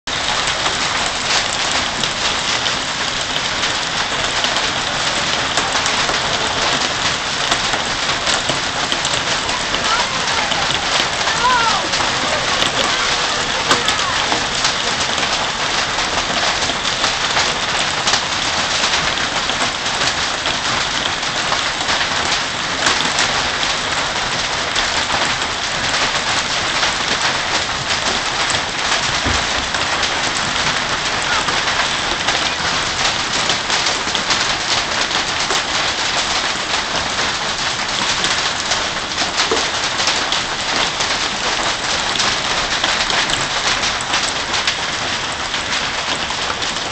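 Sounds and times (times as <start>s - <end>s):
hail and rain pelting: 0.1s - 46.9s.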